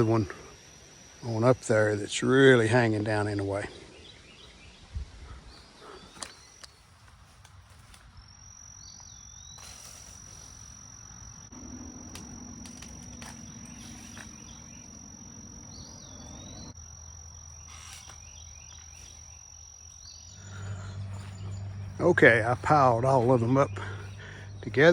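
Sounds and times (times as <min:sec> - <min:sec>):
insects droning: 0:00.0 - 0:24.9
low hum: 0:00.0 - 0:24.9.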